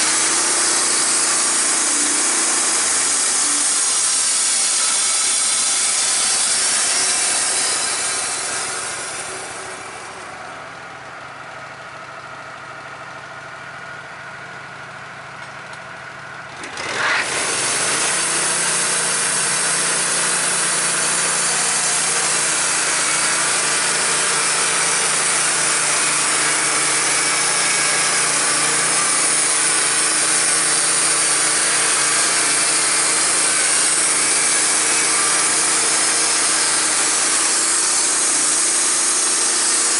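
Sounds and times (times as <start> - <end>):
sawmill engine and blade cutting wood: 0.0 - 39.9.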